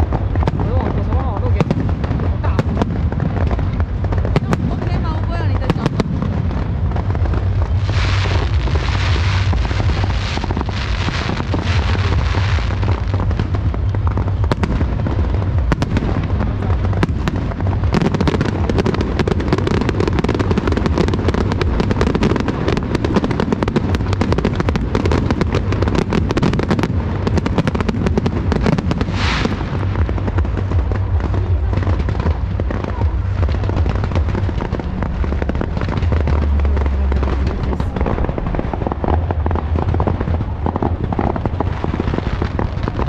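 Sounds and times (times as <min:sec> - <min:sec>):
fireworks crackling: 0:00.0 - 0:43.0
fireworks hissing: 0:00.0 - 0:43.0
fireworks pops and bangs: 0:00.0 - 0:43.0.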